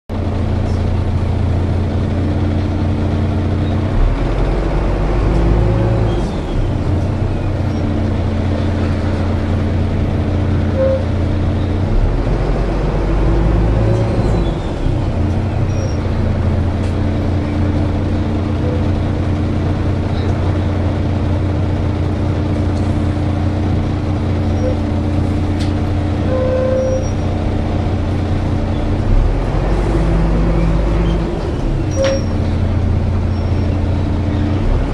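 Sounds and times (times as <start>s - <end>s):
bus engine running: 0.1s - 34.9s.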